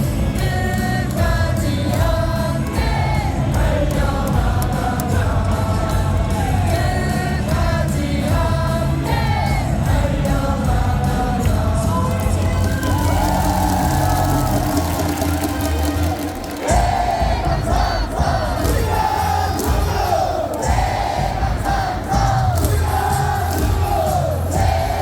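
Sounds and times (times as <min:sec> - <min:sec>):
crowd singing in unison: 0:00.0 - 0:25.0
loud music over loudspeakers: 0:00.0 - 0:25.0.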